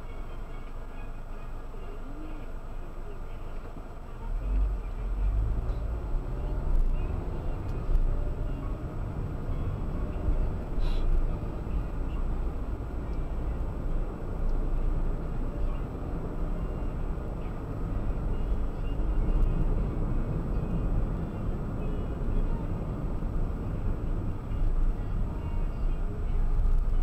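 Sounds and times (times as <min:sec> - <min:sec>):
car cabin road rumble: 0:00.0 - 0:27.0.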